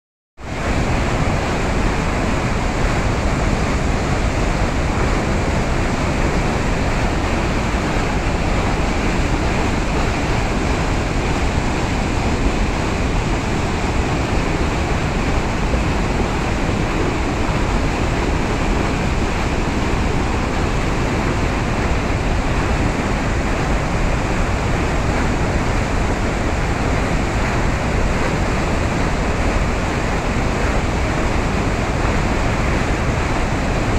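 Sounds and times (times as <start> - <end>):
floodwater rushing over spillway: 0.4 - 33.9.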